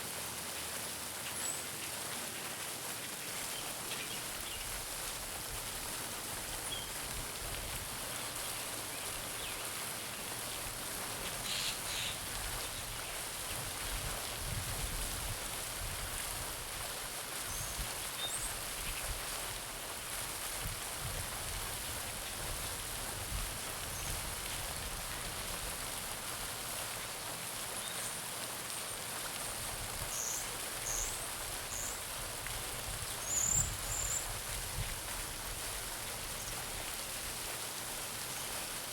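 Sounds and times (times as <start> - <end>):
fountain splashing into pond: 0.0 - 38.9.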